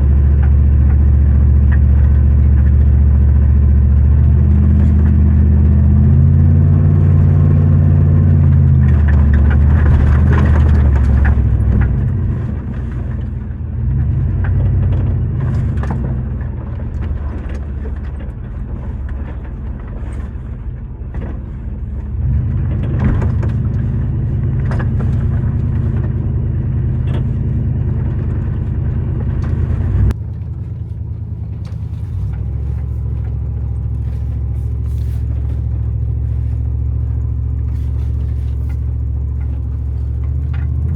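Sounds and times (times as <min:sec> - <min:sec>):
knocks and rattles: 0:00.0 - 0:40.9
vehicle engine running: 0:00.0 - 0:40.9.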